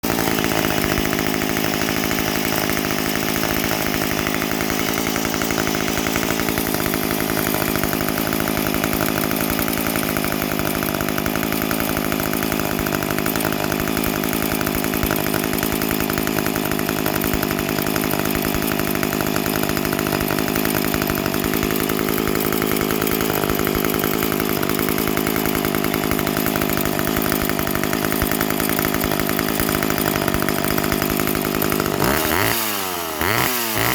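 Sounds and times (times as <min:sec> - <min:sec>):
chainsaw engine running: 0:00.0 - 0:33.9.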